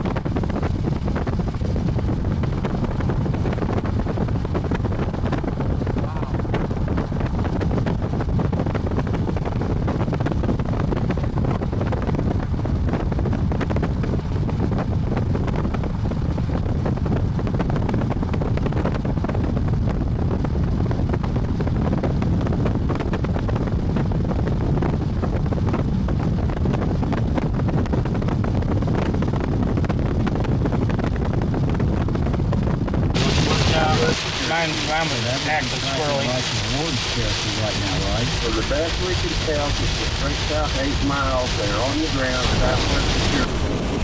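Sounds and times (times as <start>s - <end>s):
vehicle rumble: 0.0s - 44.0s
wind buffeting microphone: 0.0s - 44.0s.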